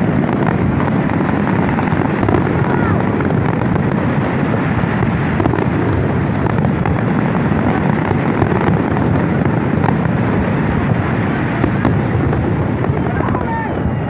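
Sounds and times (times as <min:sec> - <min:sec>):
fireworks bursts rumbling: 0:00.0 - 0:14.0
fireworks crackles and pops: 0:00.0 - 0:14.0.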